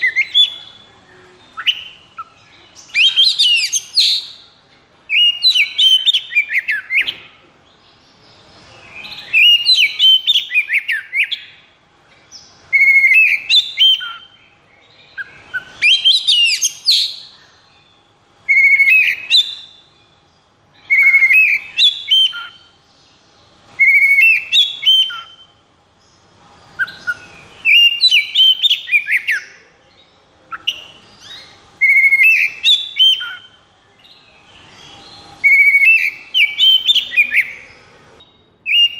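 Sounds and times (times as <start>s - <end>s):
bird singing whistles and trills: 0.0s - 25.6s, 26.6s - 29.6s, 30.5s - 38.9s.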